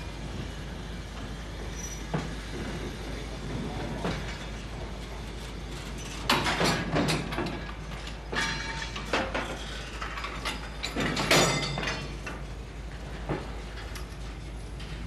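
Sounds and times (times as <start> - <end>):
metal clanking of railway wagons: 0.0 - 15.0.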